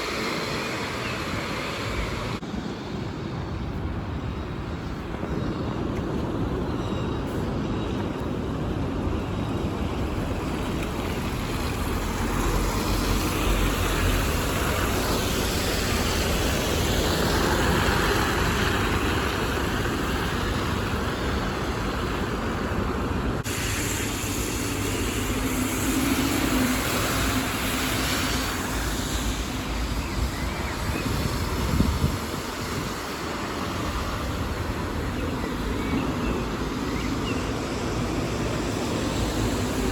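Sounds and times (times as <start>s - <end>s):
diesel bus engines passing: 0.0s - 39.9s
traffic noise: 0.0s - 39.9s.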